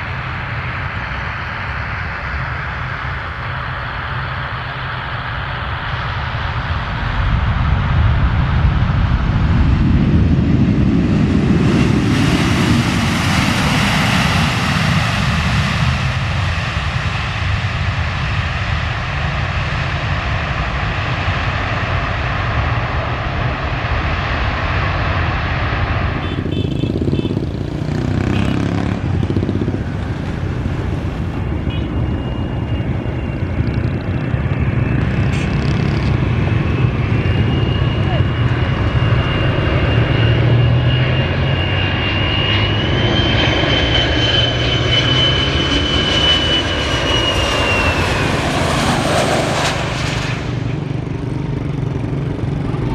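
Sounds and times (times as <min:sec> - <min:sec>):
airplane passing overhead: 0:00.0 - 0:52.9
thin high engine whine: 0:00.0 - 0:52.9.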